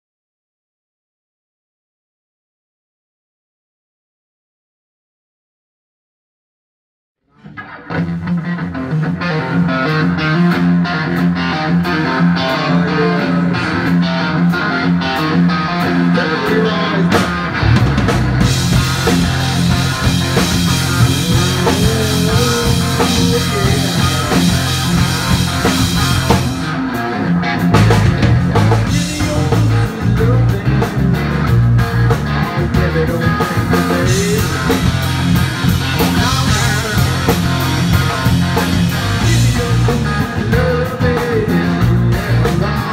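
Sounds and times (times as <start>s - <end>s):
bass guitar: 7.2s - 42.9s
electric guitar: 7.2s - 42.9s
drums: 7.4s - 42.9s.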